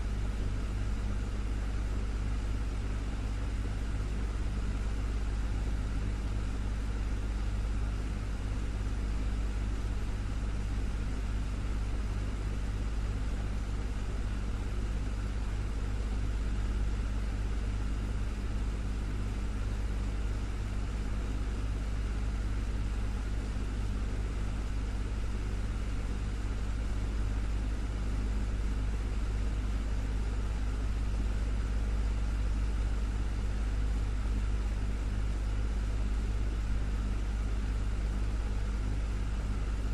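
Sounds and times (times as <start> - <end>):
desktop fan running: 0.0 - 39.9.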